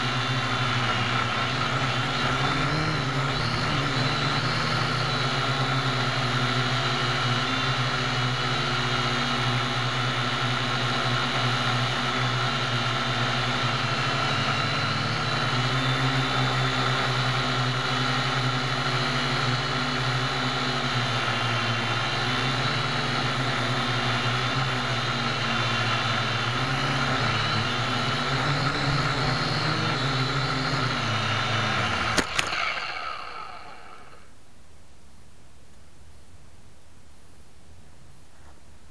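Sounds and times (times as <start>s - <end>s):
drone propellers whirring: 0.0s - 34.4s.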